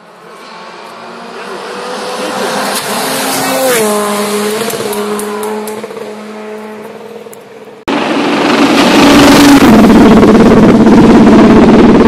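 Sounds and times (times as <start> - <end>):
rally car approaching at high revs: 0.0 - 12.0
rally car driving away: 0.0 - 12.0.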